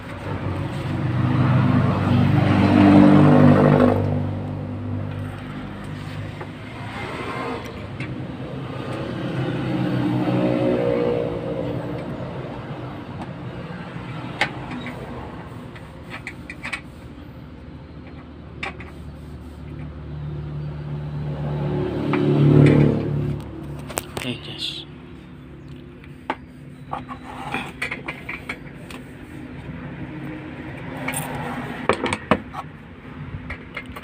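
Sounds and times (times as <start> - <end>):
vehicles driving past: 0.0 - 34.0.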